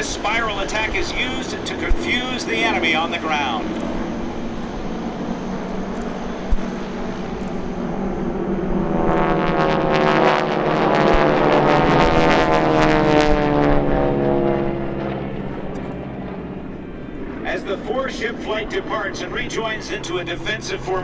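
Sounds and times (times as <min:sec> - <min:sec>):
propeller planes diving past: 0:00.0 - 0:21.0.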